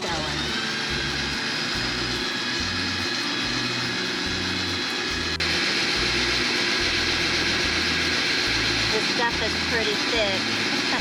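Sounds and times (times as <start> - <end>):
drill grinding into ceramic: 0.0 - 11.0.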